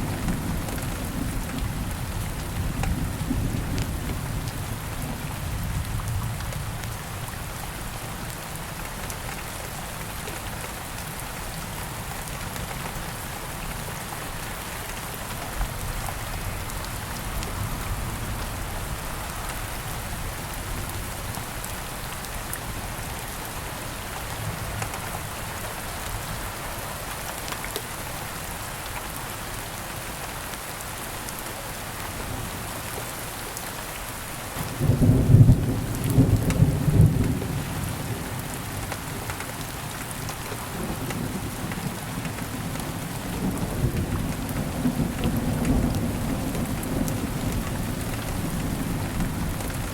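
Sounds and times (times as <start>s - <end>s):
steady rain pattering: 0.0s - 49.9s.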